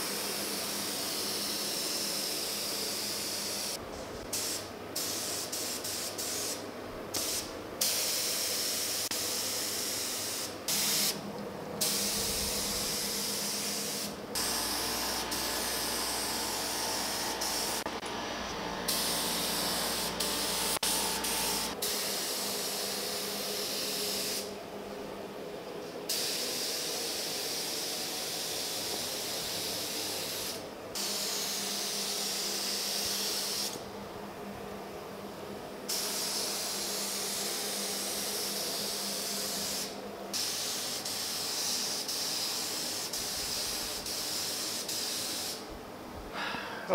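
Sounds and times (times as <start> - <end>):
spray gun hissing: 0.0 - 11.2, 11.8 - 24.5, 26.1 - 33.8, 35.9 - 45.7.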